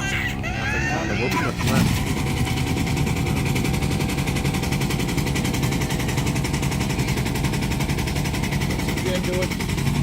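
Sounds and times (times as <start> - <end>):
small train engine running: 0.7 - 10.0.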